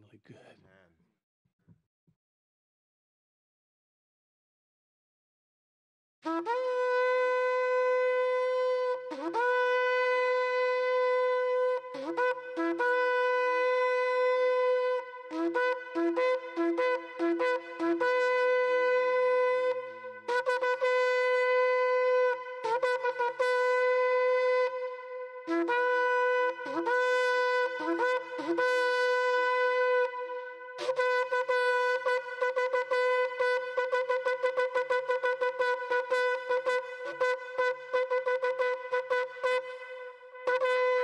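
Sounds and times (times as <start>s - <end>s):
shofar blasts: 6.3s - 41.0s.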